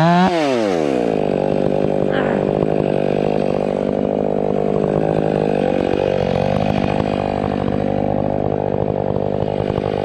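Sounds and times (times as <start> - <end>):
chainsaw cutting log: 0.0 - 10.0.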